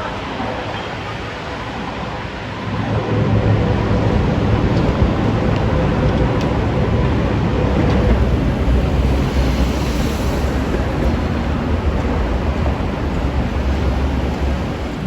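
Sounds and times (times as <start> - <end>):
vehicles passing with deep rumble: 2.8 - 15.0.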